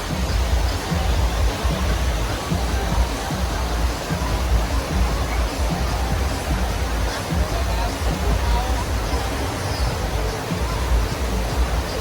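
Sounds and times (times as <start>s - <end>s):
background music: 0.0s - 12.0s
waterfall rushing: 0.0s - 12.0s.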